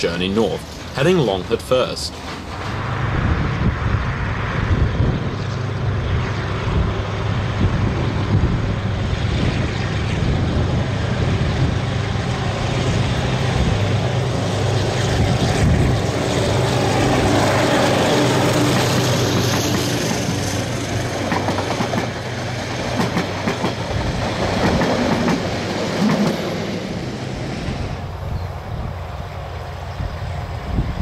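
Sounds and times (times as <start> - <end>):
locomotive diesel engine drone: 0.0 - 31.0.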